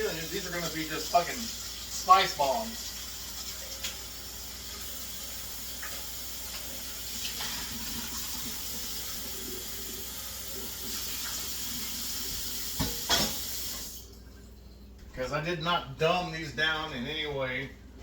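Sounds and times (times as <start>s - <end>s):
faucet running into sink: 0.0s - 14.5s.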